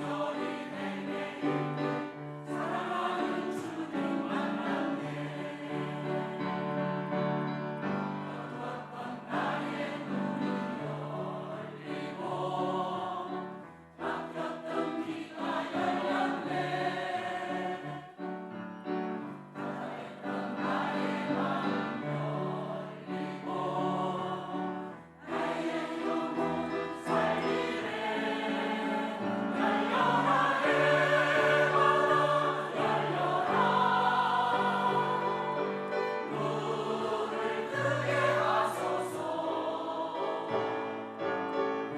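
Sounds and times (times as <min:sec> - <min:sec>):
church choir singing: 0:00.0 - 0:41.9.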